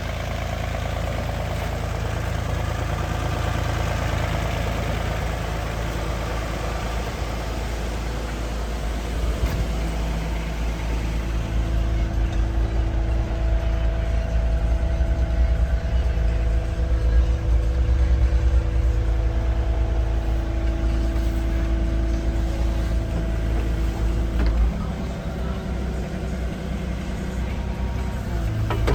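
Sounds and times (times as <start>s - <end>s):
excavator diesel engine running: 0.0s - 28.9s
steady whine: 0.0s - 28.9s.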